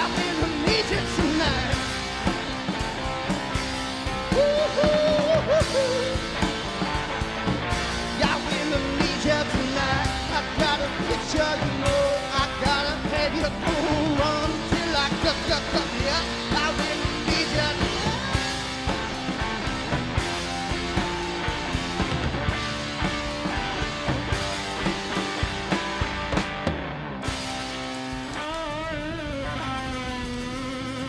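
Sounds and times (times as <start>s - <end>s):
drum kit: 0.0s - 31.0s
electric guitar: 0.0s - 31.0s.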